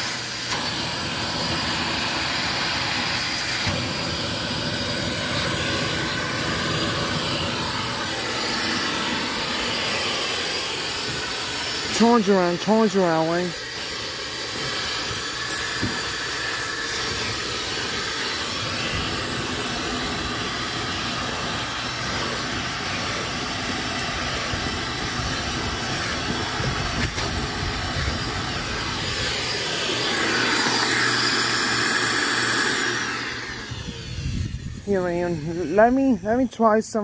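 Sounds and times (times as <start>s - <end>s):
shop vac running: 0.0s - 37.0s.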